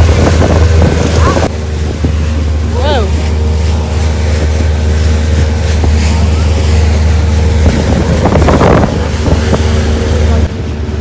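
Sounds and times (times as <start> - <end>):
wind buffeting microphone: 0.0 - 10.6
boat motor humming: 0.0 - 11.0
rough rush of noise: 0.0 - 11.0.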